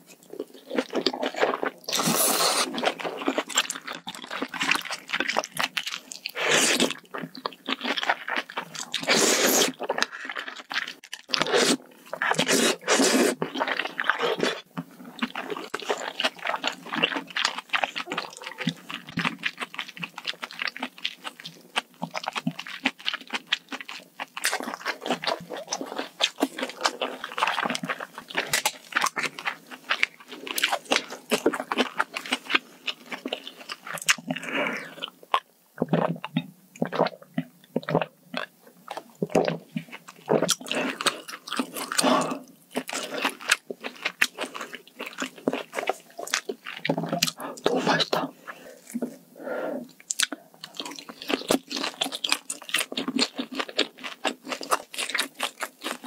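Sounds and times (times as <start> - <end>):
person chewing and crunching: 0.1 - 49.2, 49.8 - 56.0.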